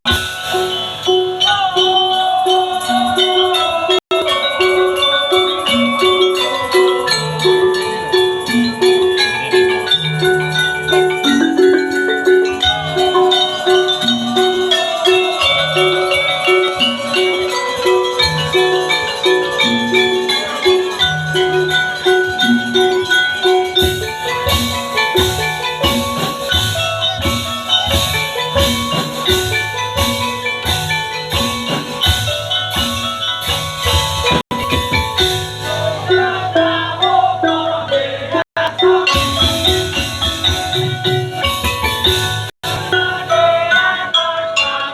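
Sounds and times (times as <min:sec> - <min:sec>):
bamboo percussion and drums: 0:00.0 - 0:44.9.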